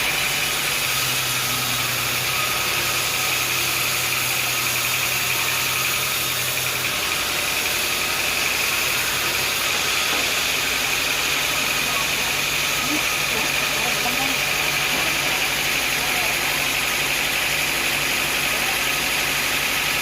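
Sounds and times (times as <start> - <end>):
sawmill machinery whine: 0.0 - 20.0.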